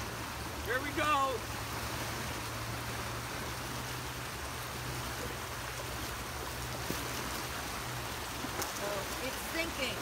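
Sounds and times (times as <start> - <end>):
creek rushing in flood: 0.0 - 10.0.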